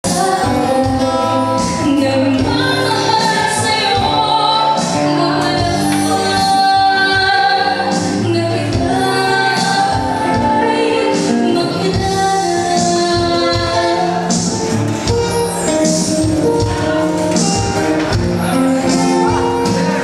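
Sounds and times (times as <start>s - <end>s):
woman singing into microphone: 0.0s - 17.6s, 18.3s - 20.0s
acoustic guitar: 0.0s - 20.0s.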